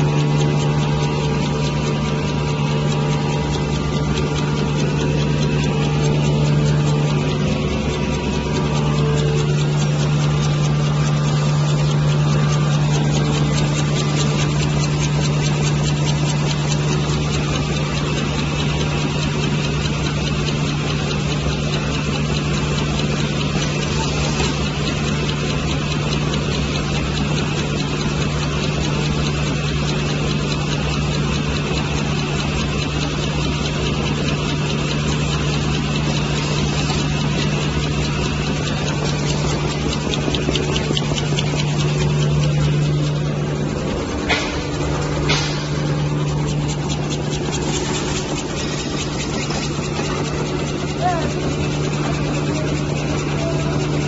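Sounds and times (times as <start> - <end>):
machine humming and clattering: 0.0 - 54.0.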